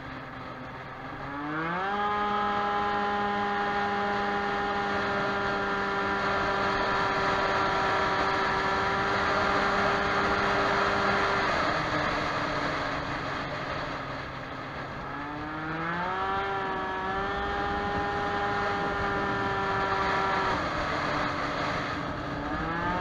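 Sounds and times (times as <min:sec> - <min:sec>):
two-stroke scooter engine revving: 0:00.0 - 0:23.0.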